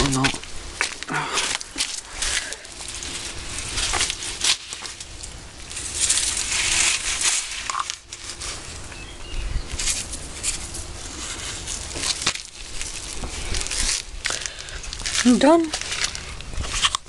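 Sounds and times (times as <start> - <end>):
plastic scoop scraping ground: 0.8 - 17.0.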